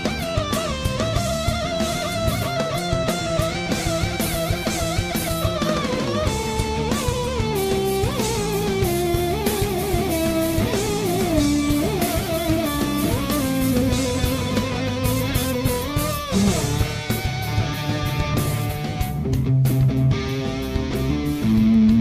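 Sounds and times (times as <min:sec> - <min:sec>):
bass guitar: 0:00.0 - 0:22.0
drums: 0:00.0 - 0:22.0
electric guitar lead melody: 0:00.0 - 0:22.0.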